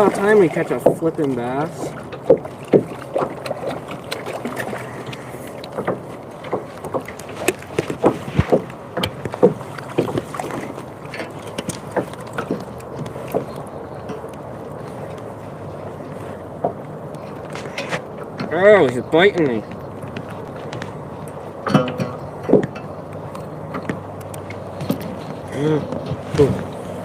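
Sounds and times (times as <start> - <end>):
knocks and bumps in a kayak: 0.0 - 27.0.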